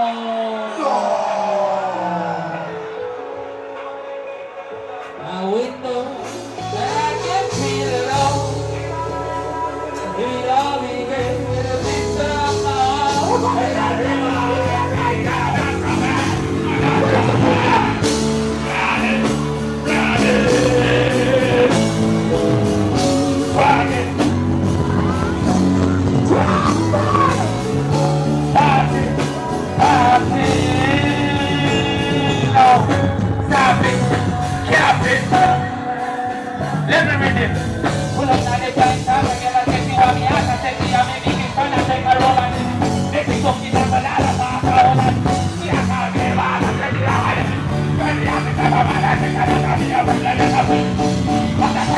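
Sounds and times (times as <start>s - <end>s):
loud backing track: 0.1s - 51.9s
person singing into a microphone: 5.2s - 51.9s.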